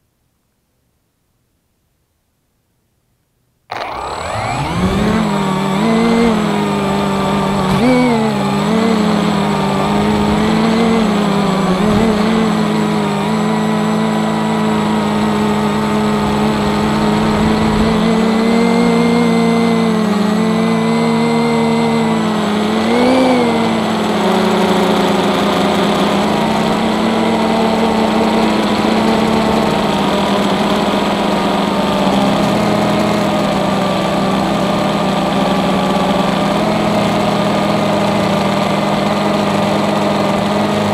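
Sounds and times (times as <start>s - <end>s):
quadcopter propellers buzzing: 3.7s - 40.9s.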